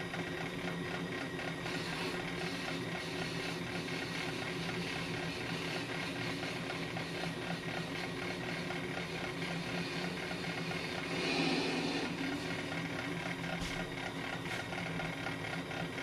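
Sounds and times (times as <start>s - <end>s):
brake lathe motor hum: 0.0s - 16.0s.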